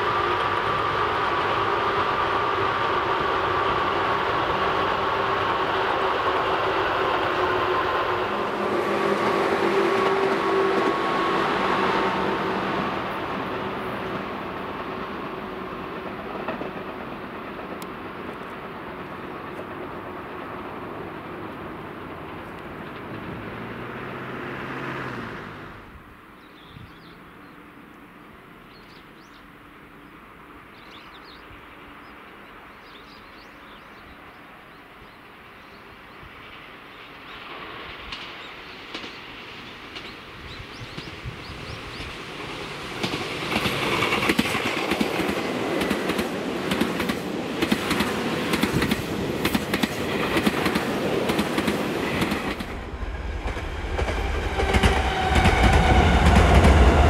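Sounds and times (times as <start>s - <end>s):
deep train rumble: 0.0s - 57.0s
train passing: 0.0s - 57.0s.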